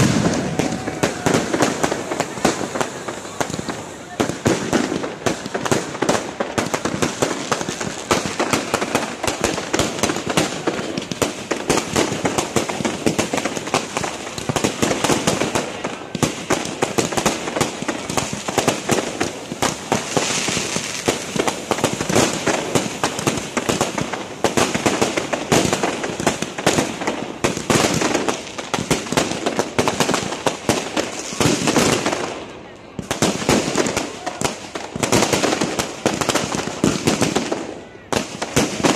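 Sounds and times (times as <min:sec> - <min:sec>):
fireworks crackles and pops: 0:00.0 - 0:38.9.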